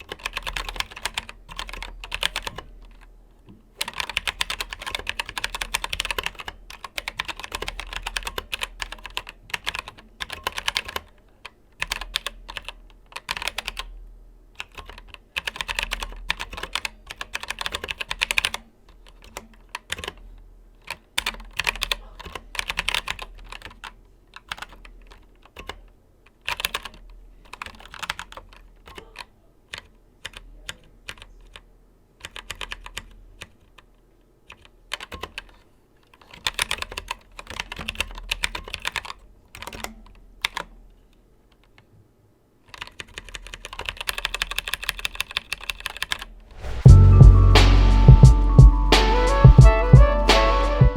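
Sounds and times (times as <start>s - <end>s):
mechanical keyboard typing: 0.0s - 3.1s, 3.8s - 14.0s, 14.6s - 31.6s, 32.2s - 33.8s, 34.4s - 40.8s, 42.6s - 46.8s.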